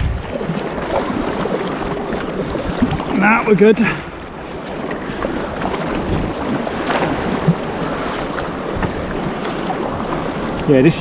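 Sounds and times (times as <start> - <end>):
surf rushing and splashing: 0.0 - 11.0.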